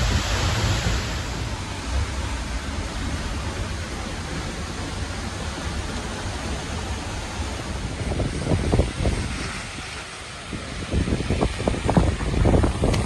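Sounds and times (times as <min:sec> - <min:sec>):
waterfall rushing: 0:00.0 - 0:12.9
wind buffeting microphone: 0:00.0 - 0:13.0.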